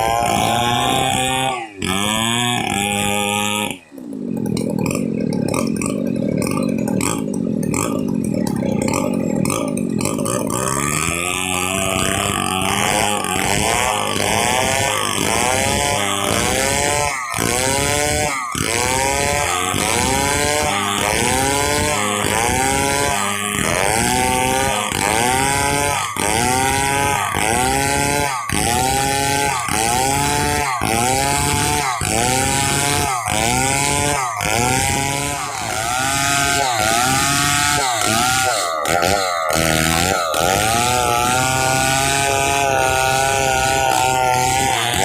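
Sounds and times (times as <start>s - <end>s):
chainsaw cutting wood: 0.0s - 45.0s.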